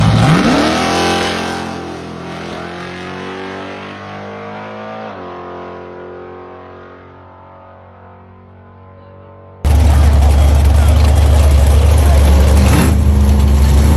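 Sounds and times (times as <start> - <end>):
car engine revving and accelerating: 0.0 - 9.0, 9.7 - 13.9.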